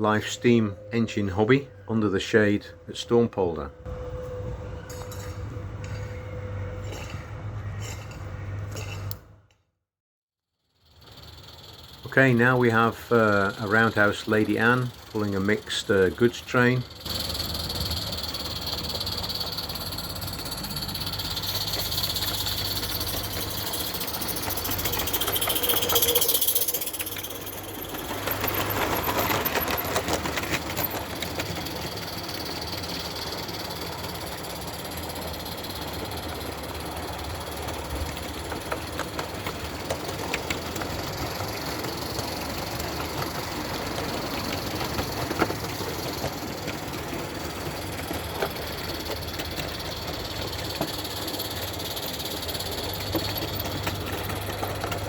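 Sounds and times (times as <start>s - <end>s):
ticking wheels and running gear: 10.8s - 55.0s.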